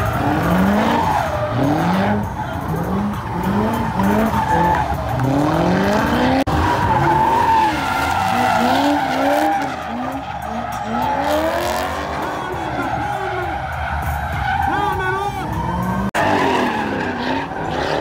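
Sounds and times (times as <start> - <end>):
car engine revving: 0.0 - 18.0
tyres squealing on asphalt: 0.0 - 18.0.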